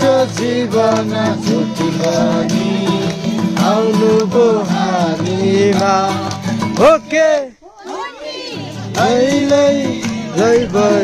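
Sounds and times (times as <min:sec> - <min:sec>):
carol sung with instruments: 0:00.0 - 0:11.0.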